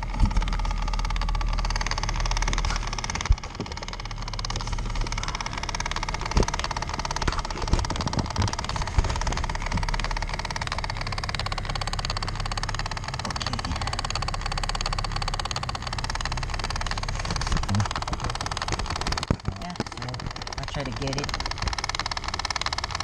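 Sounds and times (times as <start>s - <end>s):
car heater blower running: 0.0s - 23.0s
fast even clicking behind dash: 0.0s - 23.0s.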